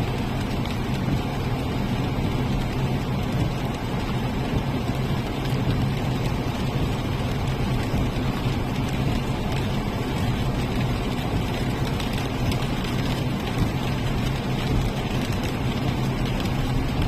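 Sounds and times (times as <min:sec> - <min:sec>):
constant rushing noise: 0:00.0 - 0:17.0.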